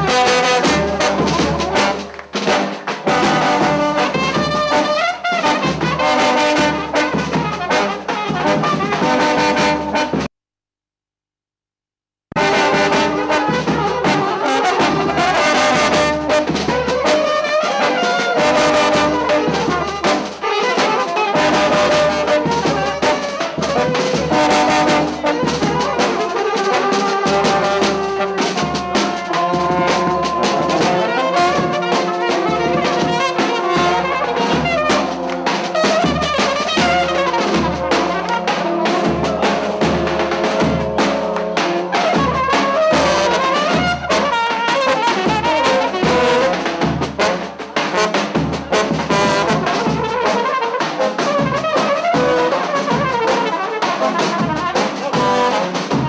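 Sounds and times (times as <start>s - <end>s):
brass band playing: 0.0s - 10.3s, 12.3s - 56.0s.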